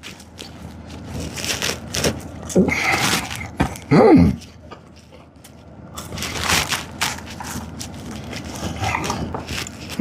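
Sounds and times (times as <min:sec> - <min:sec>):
crunching fries: 0:00.0 - 0:10.0.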